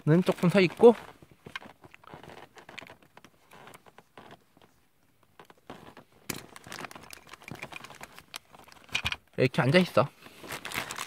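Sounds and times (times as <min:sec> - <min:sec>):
small plastic clicks and rustles: 0:00.1 - 0:09.8, 0:10.4 - 0:11.0.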